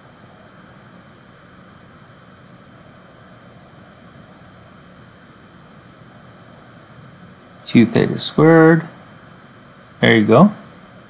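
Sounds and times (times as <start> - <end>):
room tone hiss: 0.0 - 11.0.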